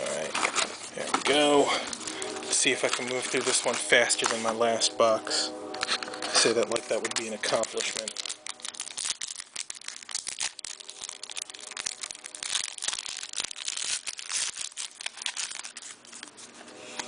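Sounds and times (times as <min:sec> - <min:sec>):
wrapper tearing and crinkling: 0:00.0 - 0:04.6, 0:05.7 - 0:17.0.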